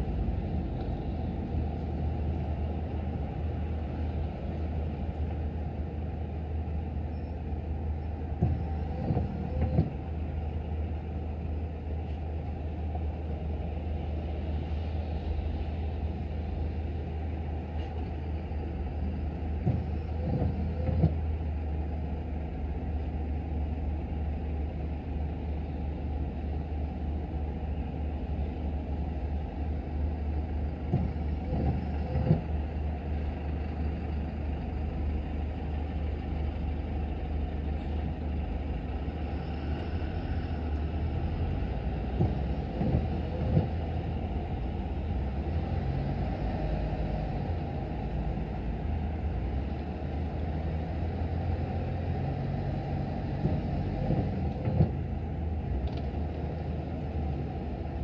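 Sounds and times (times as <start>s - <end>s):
car engine and road hum: 0.0s - 58.0s.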